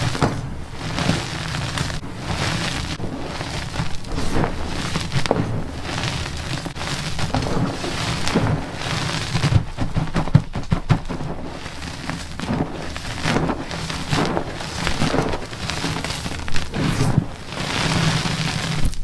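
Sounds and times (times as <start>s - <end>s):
chalk crunching in hands: 0.0s - 9.6s, 11.3s - 19.0s.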